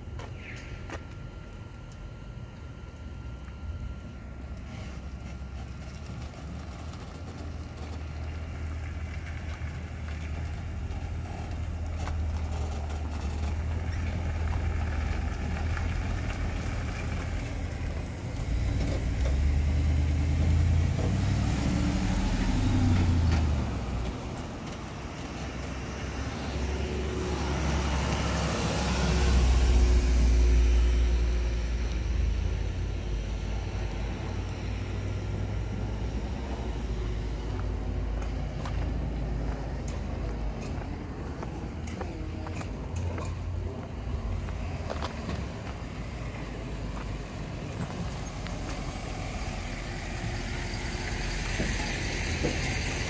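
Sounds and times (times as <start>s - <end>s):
tow truck engine driving past: 0.0s - 53.0s
car engine approaching: 3.8s - 53.0s.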